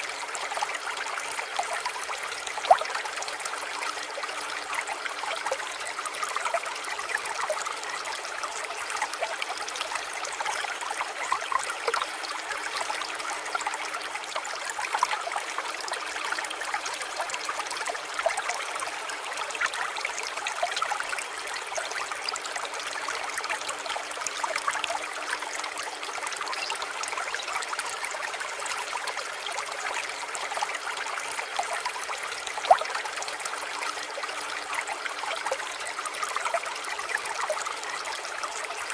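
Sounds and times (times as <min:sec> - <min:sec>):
stream trickling and bubbling: 0:00.0 - 0:38.9.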